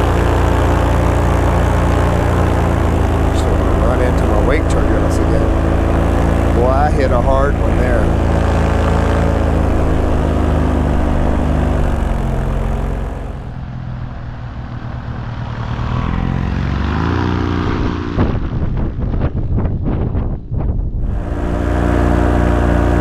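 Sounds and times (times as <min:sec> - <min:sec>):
paramotor engine and propeller: 0:00.0 - 0:23.0.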